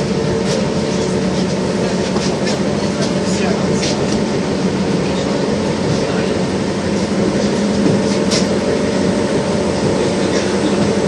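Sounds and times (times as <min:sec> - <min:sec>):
tram motors droning: 0:00.0 - 0:11.0.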